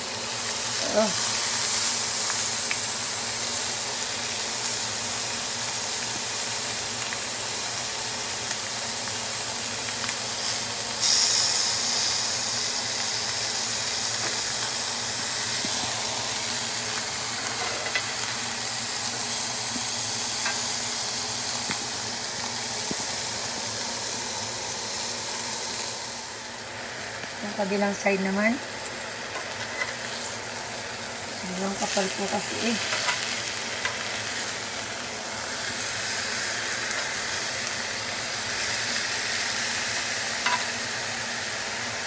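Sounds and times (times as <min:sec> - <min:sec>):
steaks sizzling in grill pan: 0:00.0 - 0:42.0.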